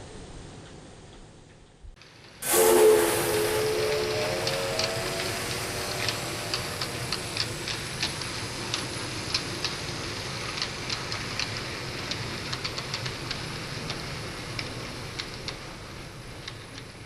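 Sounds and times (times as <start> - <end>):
model train rumbling on track: 2.1 - 17.0.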